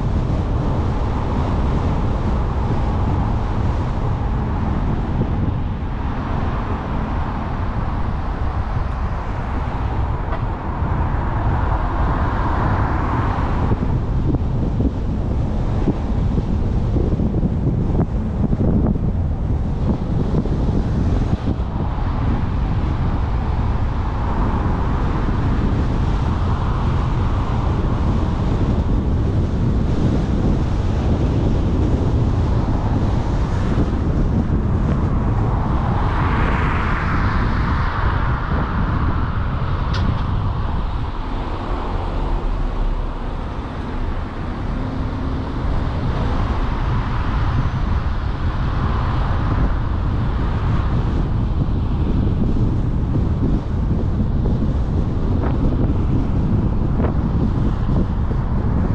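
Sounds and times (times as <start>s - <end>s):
tyre and engine rumble: 0.0s - 58.9s
wind noise on microphone: 0.0s - 58.9s.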